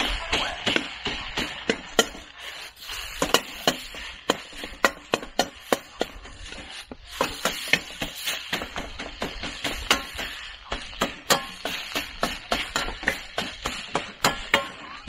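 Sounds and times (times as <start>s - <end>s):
food sizzling: 0.0s - 15.0s.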